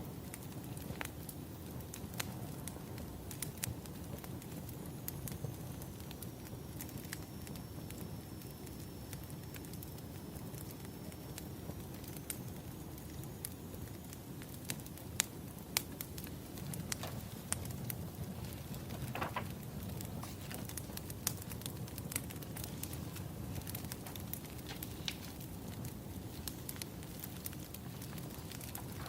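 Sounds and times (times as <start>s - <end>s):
fire crackling and popping: 0.0s - 29.0s
fire hissing: 0.0s - 29.0s
low rumble of flames: 0.0s - 29.0s.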